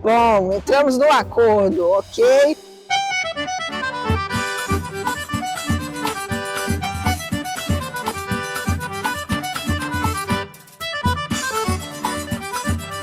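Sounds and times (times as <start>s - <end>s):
accordion dance music: 0.0s - 13.0s
bass beat: 0.0s - 13.0s.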